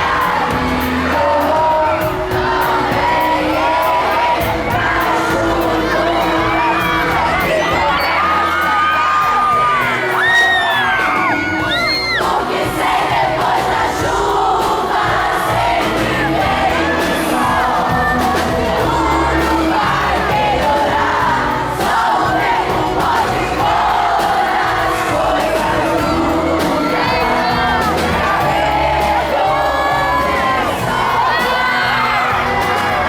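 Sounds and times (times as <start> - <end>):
crowd screaming and cheering: 0.0 - 33.0
crowd singing along: 0.0 - 33.0
live pop band playing: 0.0 - 33.0.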